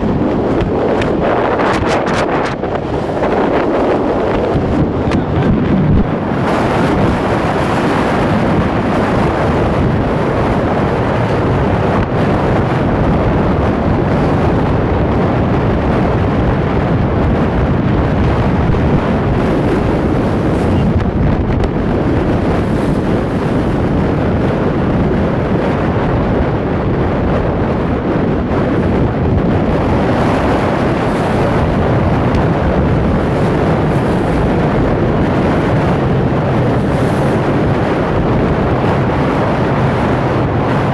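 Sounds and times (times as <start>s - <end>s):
rushing sea water: 0.0s - 40.9s
wind buffeting microphone: 0.0s - 40.9s.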